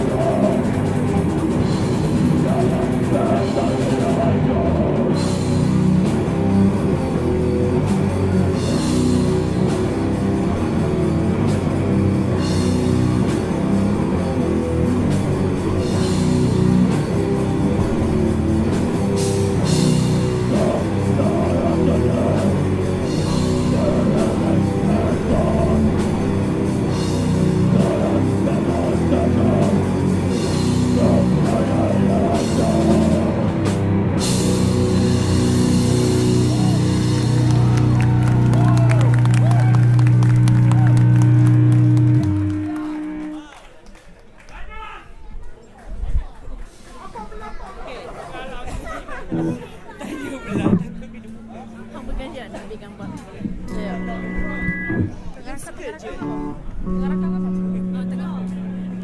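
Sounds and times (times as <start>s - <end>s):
metal band playing live: 0.0s - 43.2s, 49.2s - 55.6s.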